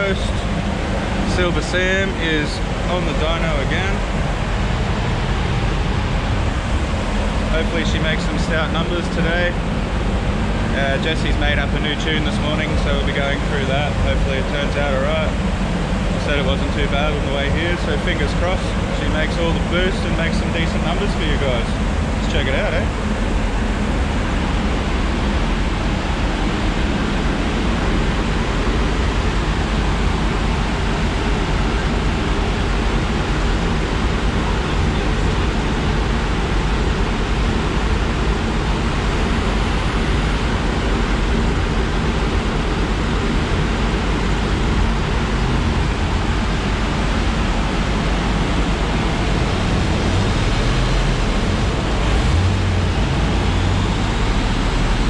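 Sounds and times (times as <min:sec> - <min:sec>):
cooling fan rushing air: 0:00.0 - 0:55.0
low even hum: 0:00.0 - 0:55.0.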